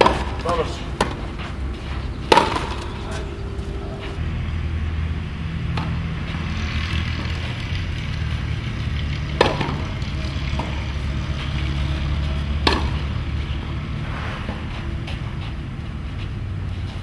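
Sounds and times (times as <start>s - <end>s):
tennis racket hitting ball: 0.0s - 4.2s, 5.7s - 17.0s
low rumble: 0.3s - 17.0s.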